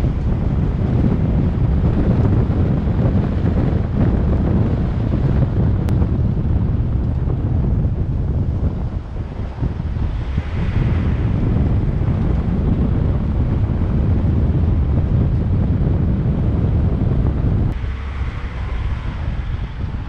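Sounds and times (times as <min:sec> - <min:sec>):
rushing wind hiss: 0:00.0 - 0:20.0
wind buffeting microphone: 0:00.0 - 0:20.0.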